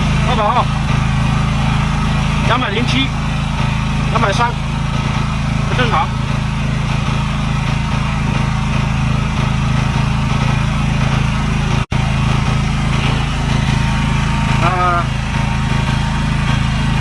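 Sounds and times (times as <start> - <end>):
generator engine running: 0.0 - 17.0.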